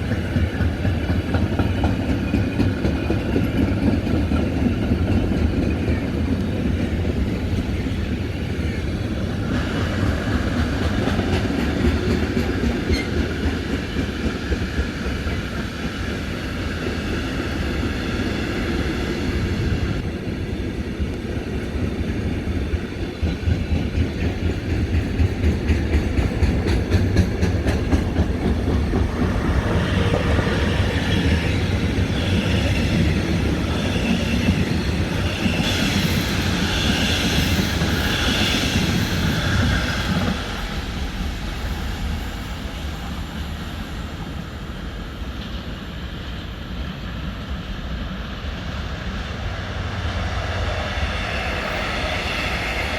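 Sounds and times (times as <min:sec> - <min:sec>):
train rumbling past: 0:00.0 - 0:52.9.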